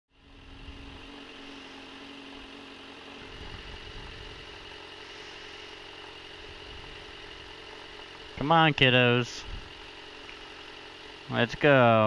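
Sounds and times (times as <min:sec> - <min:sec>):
motorcycle engine idling: 0:00.1 - 0:12.0.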